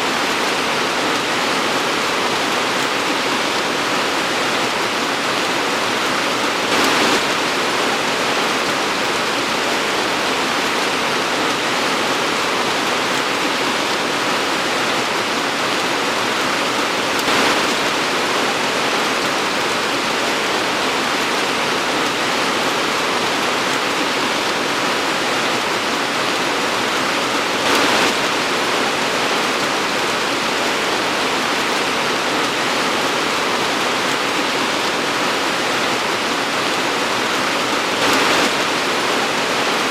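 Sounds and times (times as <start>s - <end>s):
torrential rain hissing: 0.0s - 39.9s.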